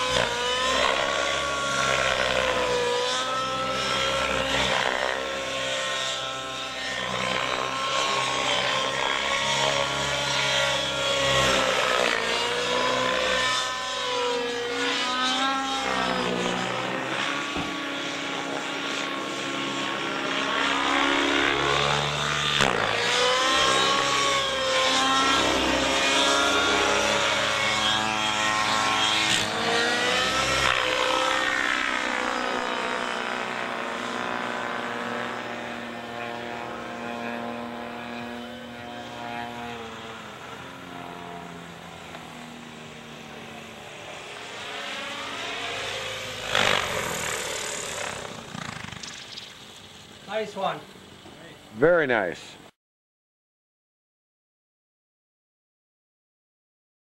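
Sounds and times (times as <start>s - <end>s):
model helicopter engine whining: 0.0s - 52.7s.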